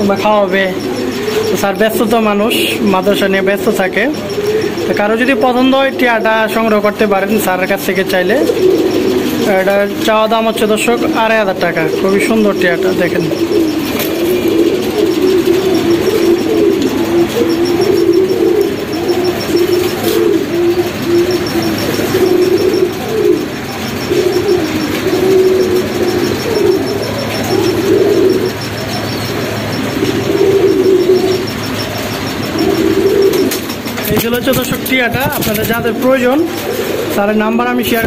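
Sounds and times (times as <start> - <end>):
birds cooing: 0.0 - 38.0.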